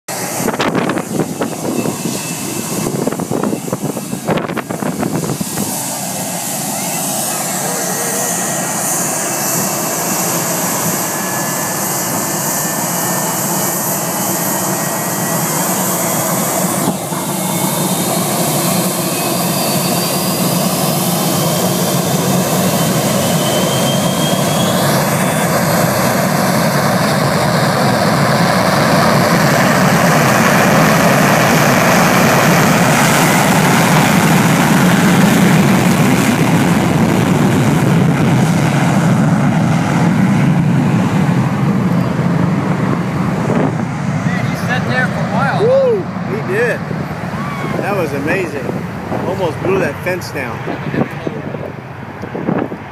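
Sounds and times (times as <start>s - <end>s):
jet engines roaring: 0.1s - 52.9s.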